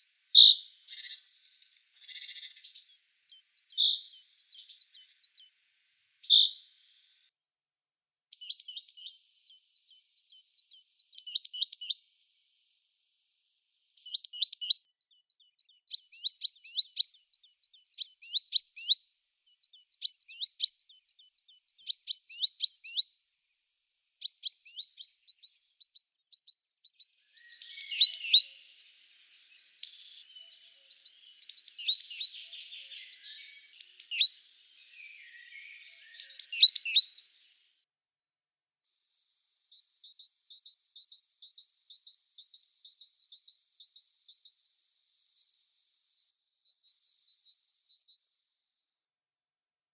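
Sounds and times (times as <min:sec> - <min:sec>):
small songbirds chirping: 0:00.0 - 0:49.9.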